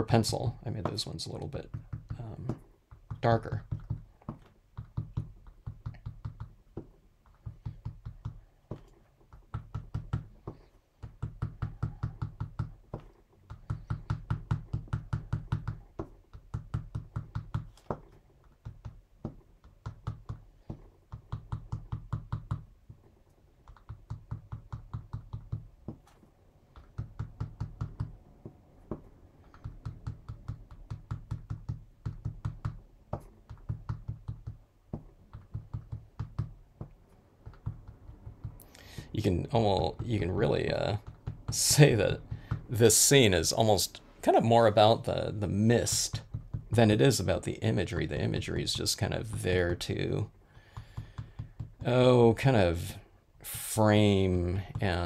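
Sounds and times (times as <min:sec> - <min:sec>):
ink pad tapping on card: 0:00.8 - 0:23.0, 0:23.6 - 0:42.8, 0:45.7 - 0:47.1, 0:49.2 - 0:51.9.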